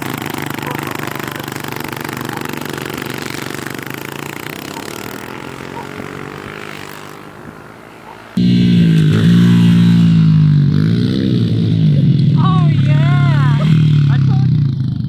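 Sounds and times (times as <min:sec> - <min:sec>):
dirt bike engines riding off: 0:00.0 - 0:15.0.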